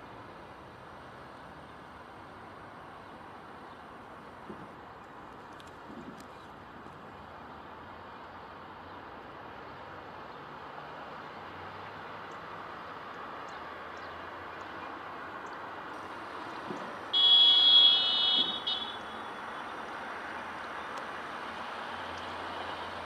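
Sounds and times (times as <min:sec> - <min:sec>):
steady outdoor hiss: 0:00.0 - 0:23.0.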